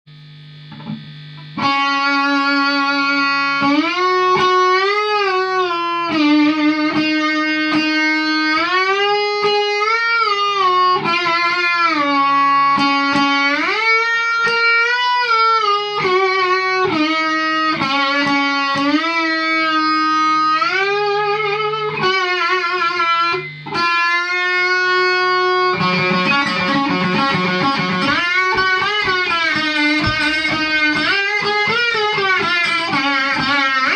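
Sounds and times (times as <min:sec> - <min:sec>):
electric guitar single-note melody: 0:00.1 - 0:33.9.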